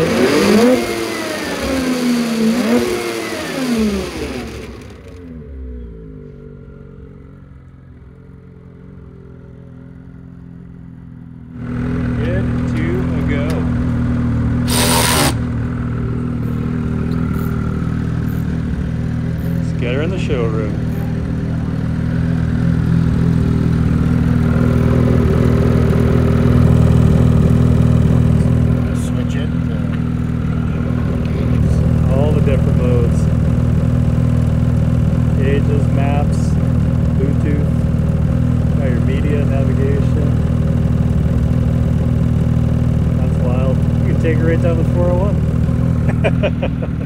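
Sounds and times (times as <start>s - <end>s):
snowmobile engine idling: 0.0s - 47.0s.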